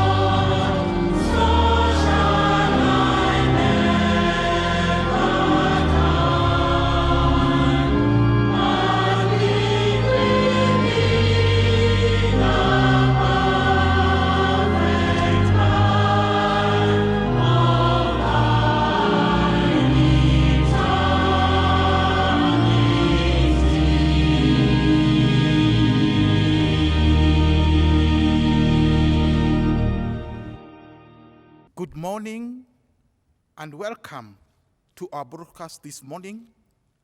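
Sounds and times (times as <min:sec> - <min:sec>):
choir singing long chords: 0:00.0 - 0:31.4.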